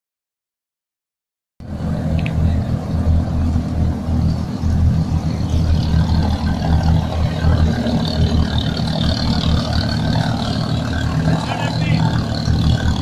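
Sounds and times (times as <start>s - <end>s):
engine humming: 1.6s - 13.0s.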